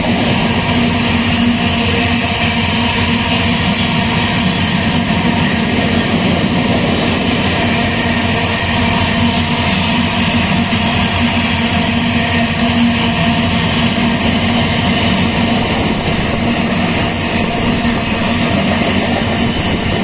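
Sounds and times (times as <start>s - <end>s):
locomotive engine drone: 0.0s - 20.0s
wagons rumbling over rails: 0.0s - 20.0s.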